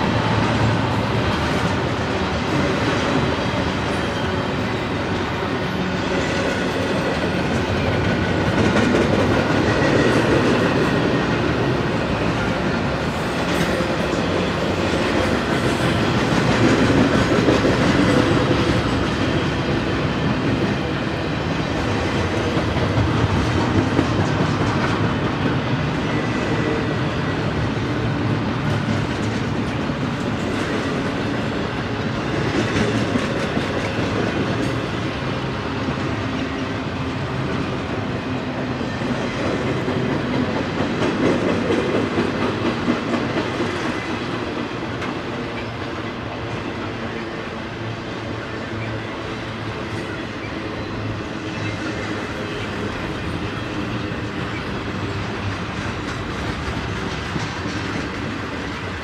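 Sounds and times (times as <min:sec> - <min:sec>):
freight train wheels on rail: 0:00.0 - 0:59.0.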